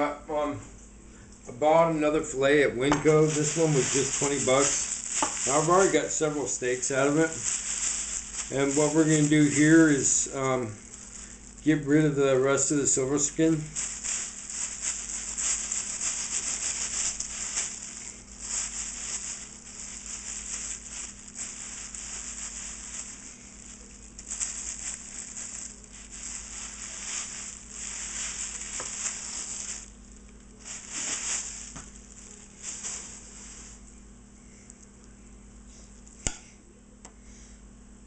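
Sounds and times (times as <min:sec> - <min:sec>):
plastic bag rustling: 0:02.7 - 0:34.0.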